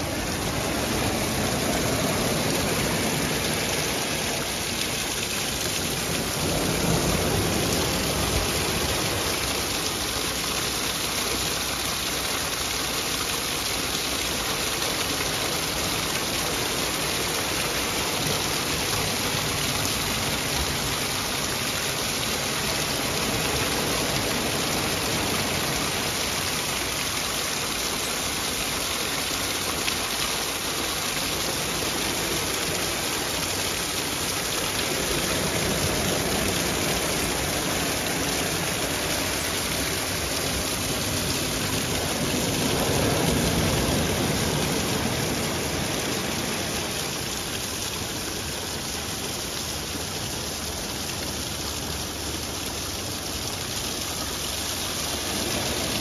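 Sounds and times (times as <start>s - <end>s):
stream splashing over rocks: 0.0s - 56.0s.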